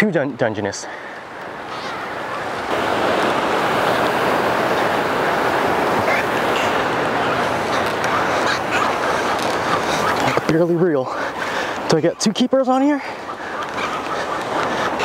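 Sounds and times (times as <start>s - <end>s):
ocean surf washing over rocks: 2.6s - 15.0s.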